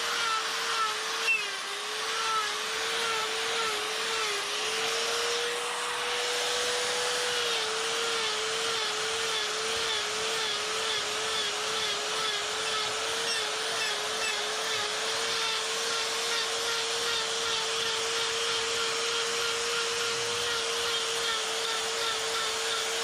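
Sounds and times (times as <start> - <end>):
burr grinding wood: 0.0 - 23.0
die grinder whining: 0.0 - 23.0.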